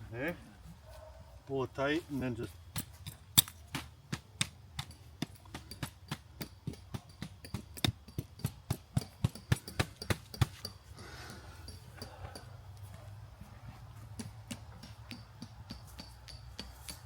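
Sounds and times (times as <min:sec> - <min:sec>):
tent pegs being hammered: 0:02.4 - 0:17.0.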